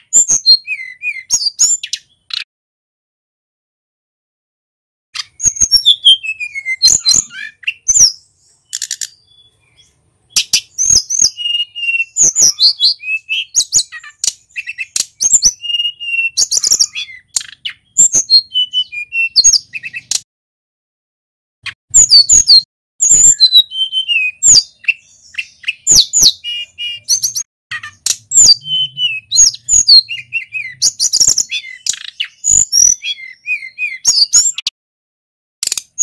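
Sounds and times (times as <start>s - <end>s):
bird singing whistled notes: 0.0s - 2.5s, 5.2s - 20.3s, 21.9s - 34.7s.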